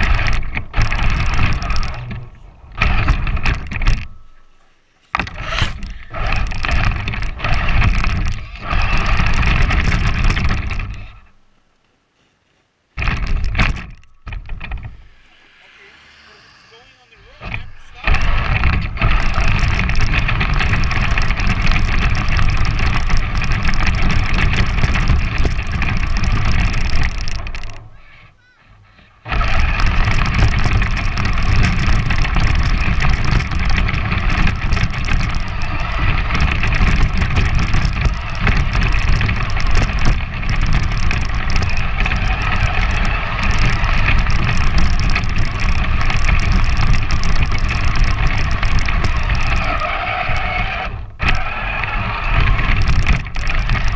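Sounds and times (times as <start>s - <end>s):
electric motor whining: 0.0s - 11.4s, 13.0s - 28.4s, 29.1s - 53.9s
tyre rumble: 0.0s - 11.4s, 13.0s - 53.9s.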